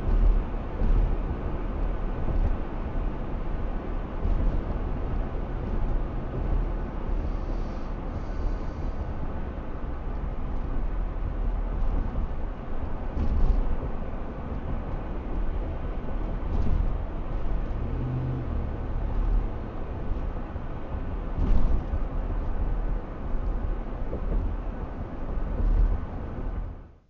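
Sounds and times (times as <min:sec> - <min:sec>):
road and engine rumble: 0:00.0 - 0:27.0
road bumps: 0:00.0 - 0:27.0.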